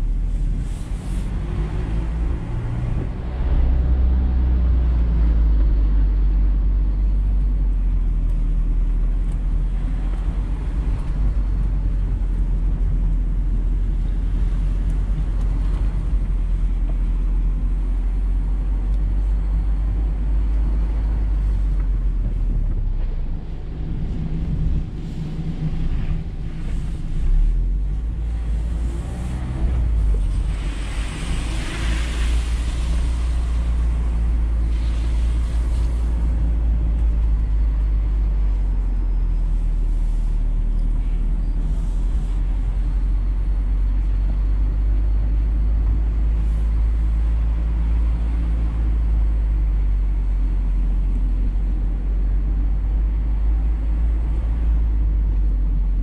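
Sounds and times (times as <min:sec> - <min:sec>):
car engine hum: 0:00.0 - 0:56.0
road and wind noise: 0:00.0 - 0:56.0.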